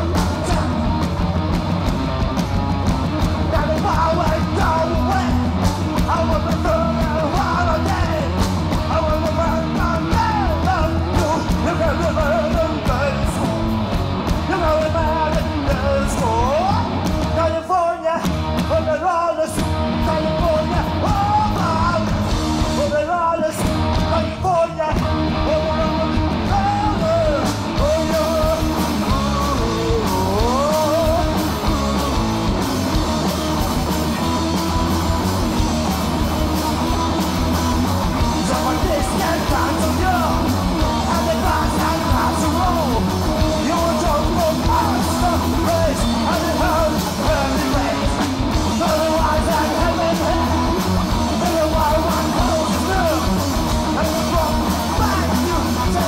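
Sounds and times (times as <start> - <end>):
lead vocal: 0.0 - 1.2, 3.2 - 56.0
bass guitar: 0.0 - 56.0
distorted electric guitars: 0.0 - 56.0
drum kit: 0.0 - 56.0.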